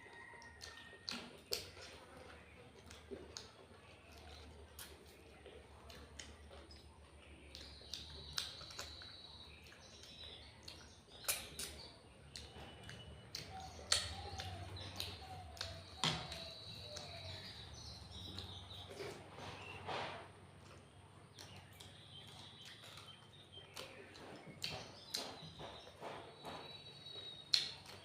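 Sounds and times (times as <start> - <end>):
chewing and lip smacks: 0.0 - 28.0
faint birds chirping: 0.0 - 28.0.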